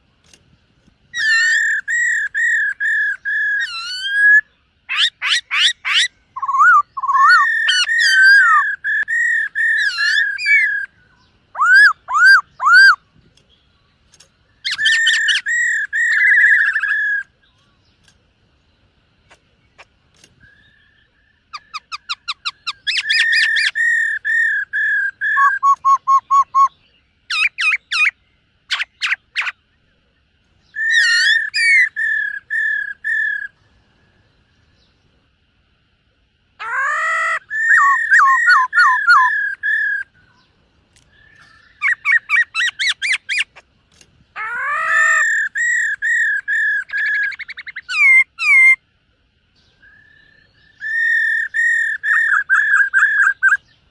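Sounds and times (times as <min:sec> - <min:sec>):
bird singing whistled notes: 0:01.1 - 0:35.1, 0:36.6 - 0:43.6, 0:44.4 - 0:48.9, 0:49.6 - 0:53.9.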